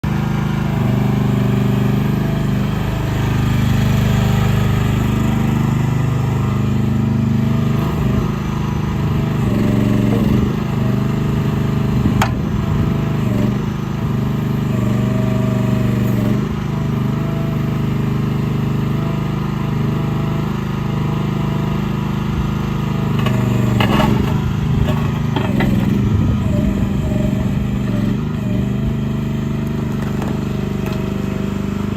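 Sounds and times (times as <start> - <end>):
engine running under load: 0.0 - 31.9.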